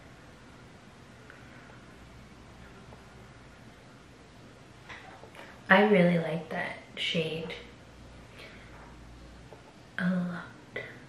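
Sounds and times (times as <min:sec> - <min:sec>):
low hum: 0:00.0 - 0:11.0
room tone hiss: 0:00.0 - 0:11.0.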